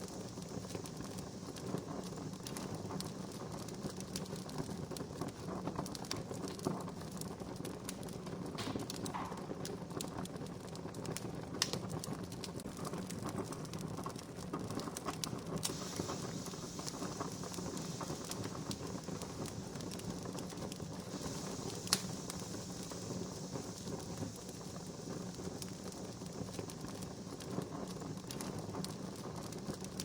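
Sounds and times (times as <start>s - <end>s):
sharp fire pops: 0.0s - 30.0s
wood fire crackling: 0.0s - 30.0s.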